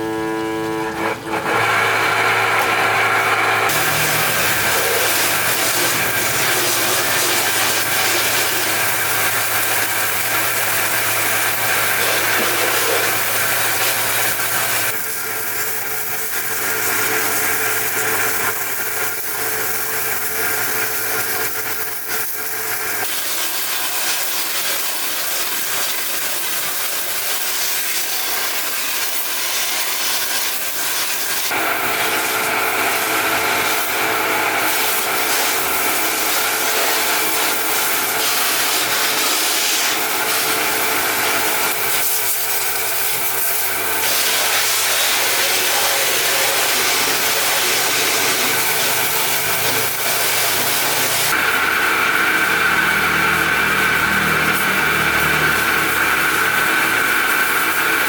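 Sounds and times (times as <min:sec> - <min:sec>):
power tool rubbing a surface: 0:00.0 - 0:58.0.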